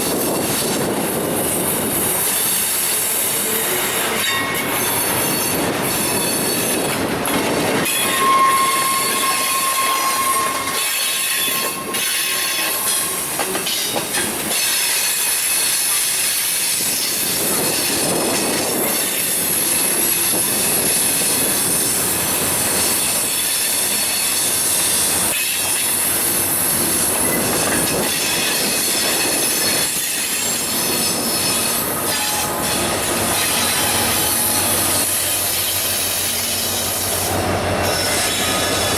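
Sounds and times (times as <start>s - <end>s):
steel wheels squealing on rail: 0.0s - 38.9s
wheels clacking over rail joints: 0.0s - 38.9s.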